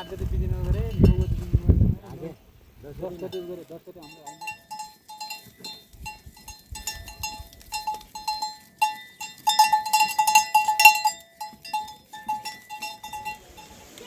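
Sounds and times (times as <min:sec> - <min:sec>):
livestock bells clanking: 0:00.0 - 0:01.4, 0:03.1 - 0:14.0.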